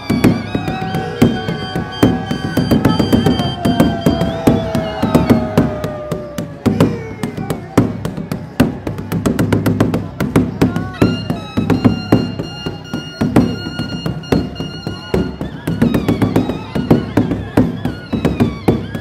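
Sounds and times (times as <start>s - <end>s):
kettle drums drumming: 0.0s - 19.0s.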